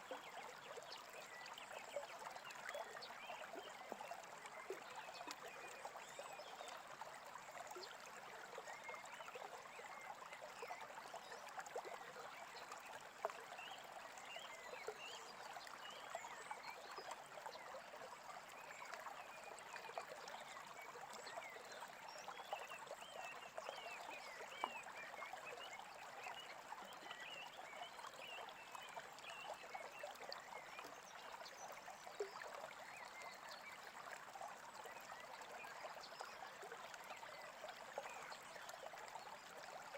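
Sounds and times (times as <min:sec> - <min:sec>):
stream babbling: 0:00.1 - 0:39.9.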